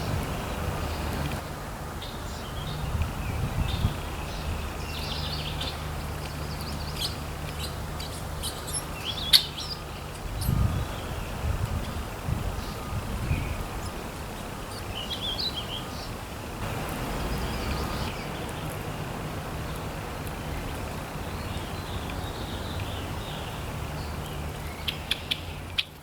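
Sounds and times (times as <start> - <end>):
small birds chirping: 0.0 - 12.0, 12.6 - 26.0.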